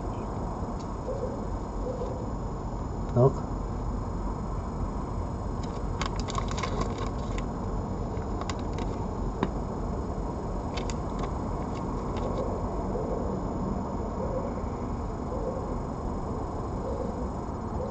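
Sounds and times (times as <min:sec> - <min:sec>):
low background rumble and hiss: 0:00.0 - 0:17.9.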